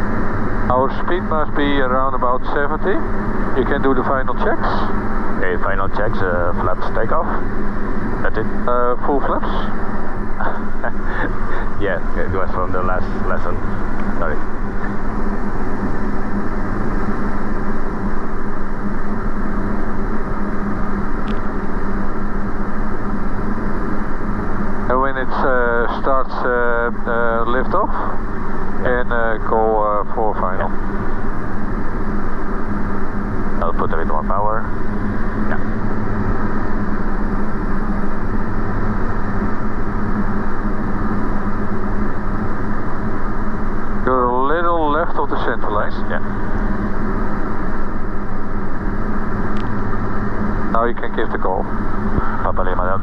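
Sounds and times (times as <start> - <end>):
light aircraft engine and propeller drone: 0.0 - 53.0.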